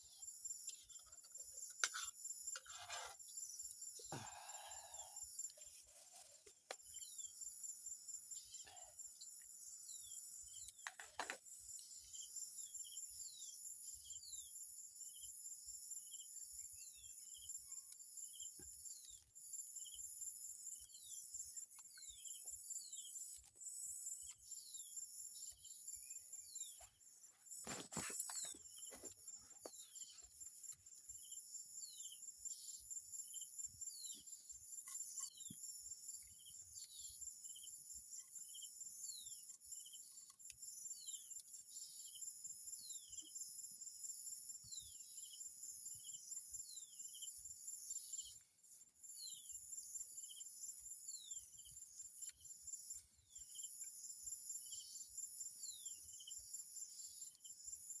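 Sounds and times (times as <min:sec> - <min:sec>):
crickets trilling: 0:00.0 - 0:48.4, 0:49.0 - 0:58.0.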